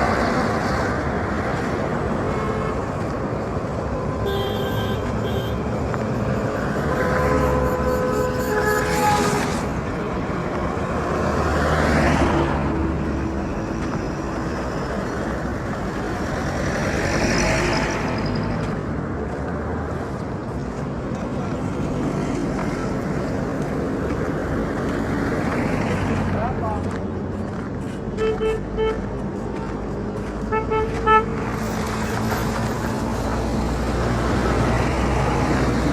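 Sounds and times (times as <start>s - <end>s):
road traffic motor noise: 0.0s - 35.9s
vehicles passing: 0.0s - 35.9s.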